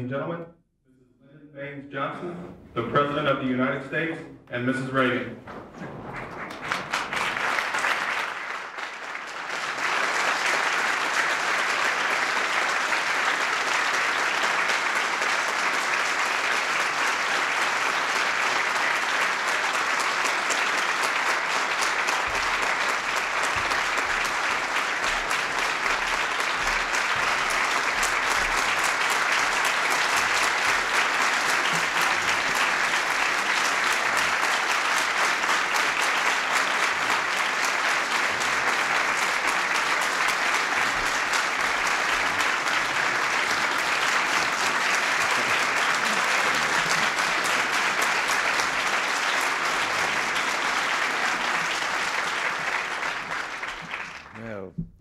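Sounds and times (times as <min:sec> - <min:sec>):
audience applauding: 0:04.9 - 0:55.0.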